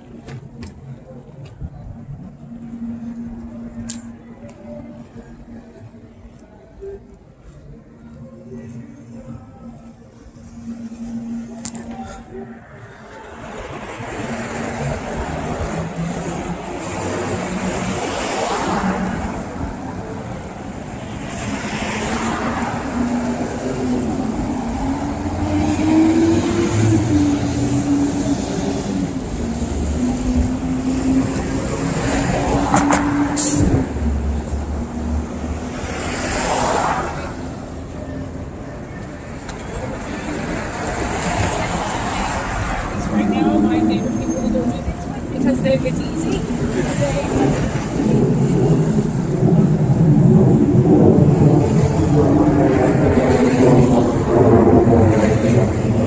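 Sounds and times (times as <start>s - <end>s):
engine hum: 0.0s - 56.0s
vehicles passing: 0.0s - 56.0s.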